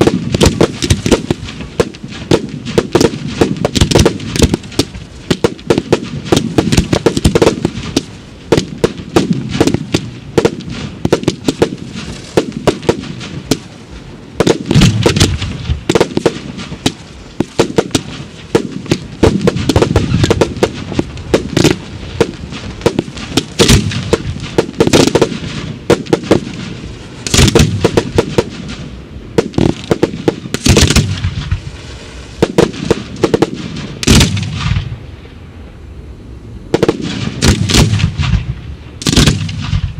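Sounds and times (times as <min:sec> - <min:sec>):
fireworks bangs and crackling: 0:00.0 - 0:35.4, 0:36.6 - 0:39.9.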